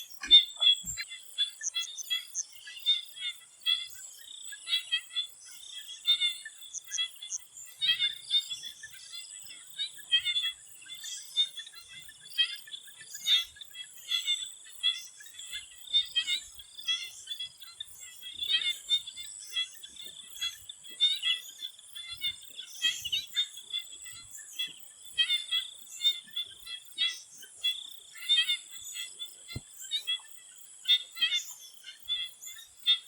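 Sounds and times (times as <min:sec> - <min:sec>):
frogs chirping: 0:00.0 - 0:33.0.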